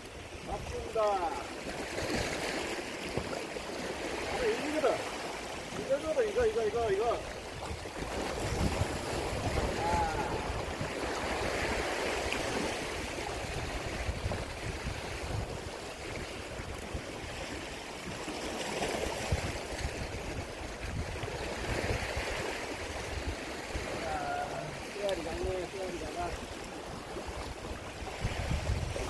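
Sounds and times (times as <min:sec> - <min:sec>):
sea waves washing on shore: 0:00.0 - 0:29.0
wind on microphone: 0:03.9 - 0:29.0.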